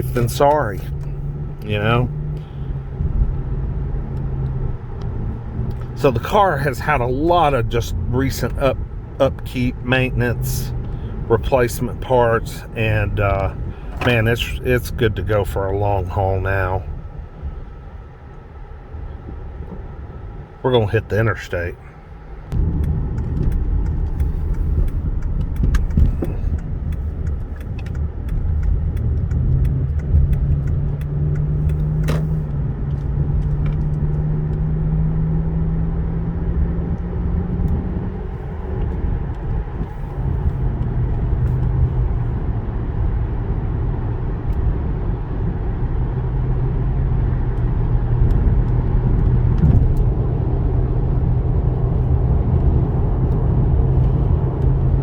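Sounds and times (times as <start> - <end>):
car engine accelerating: 0.0 - 55.0
road and tyre rumble: 0.0 - 55.0.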